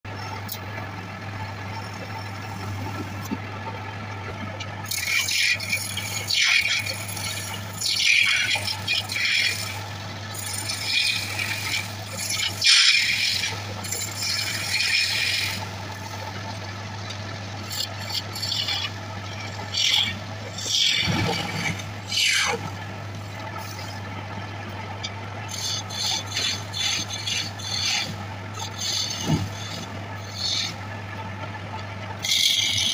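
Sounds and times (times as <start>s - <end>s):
gouge scraping spinning wood: 0.1s - 32.9s
lathe humming: 0.1s - 32.9s.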